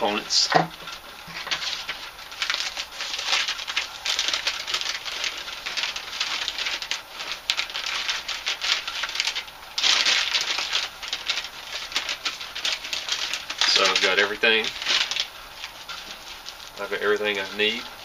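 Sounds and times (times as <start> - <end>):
packing material crinkling: 0.0 - 18.0.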